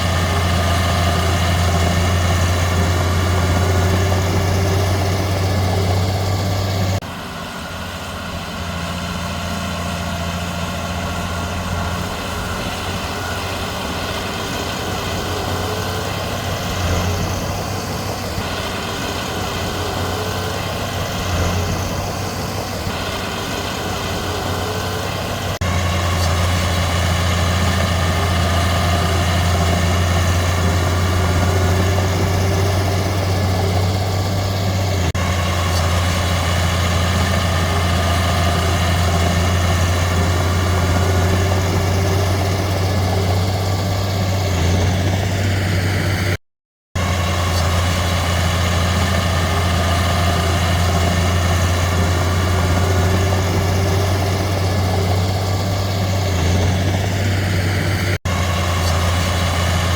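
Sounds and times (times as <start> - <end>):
heavy diesel engine humming: 0.0 - 46.4, 47.0 - 59.9.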